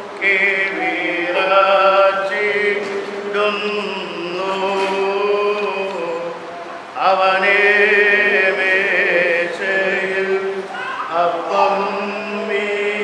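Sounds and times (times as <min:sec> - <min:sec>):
voices chanting long held notes: 0:00.0 - 0:13.0.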